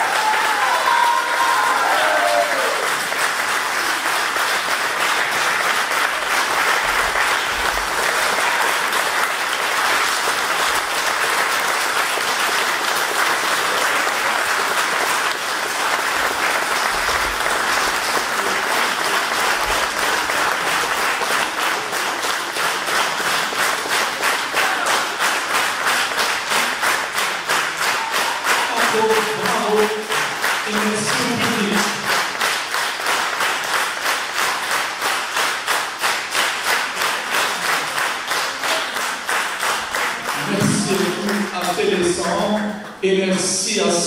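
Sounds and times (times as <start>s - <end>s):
audience applauding: 0.0s - 43.9s.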